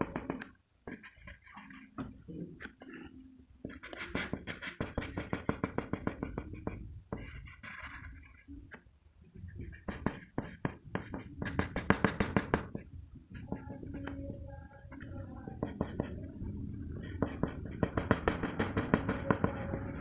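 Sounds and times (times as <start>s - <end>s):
pencil shading on paper: 0.0s - 20.0s.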